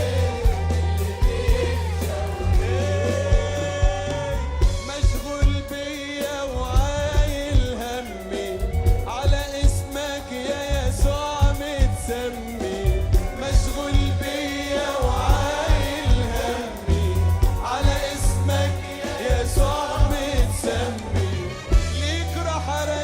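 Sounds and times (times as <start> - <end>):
band with steady drum beat: 0.0 - 23.0
voices singing: 0.0 - 23.0.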